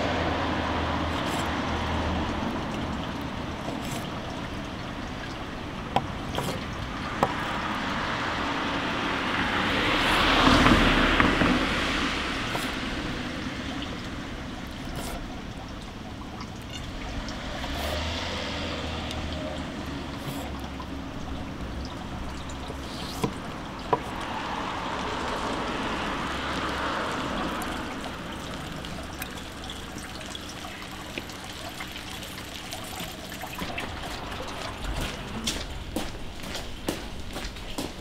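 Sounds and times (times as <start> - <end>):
street traffic passing: 0.0 - 38.0.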